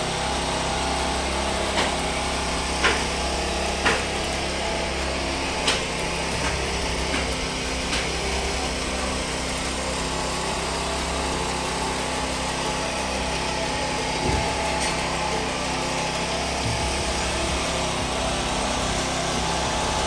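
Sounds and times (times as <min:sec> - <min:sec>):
generator engine running: 0:00.0 - 0:20.0.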